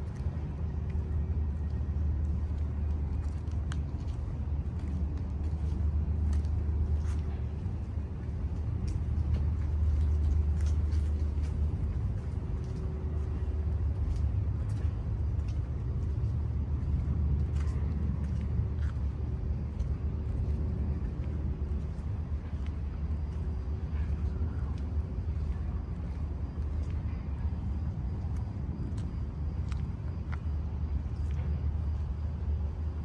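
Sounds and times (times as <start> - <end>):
distant traffic rumble: 0.0 - 33.0.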